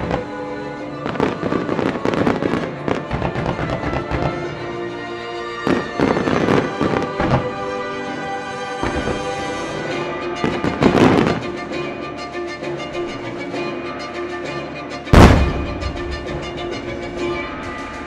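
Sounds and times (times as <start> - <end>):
music playing: 0.0 - 18.0.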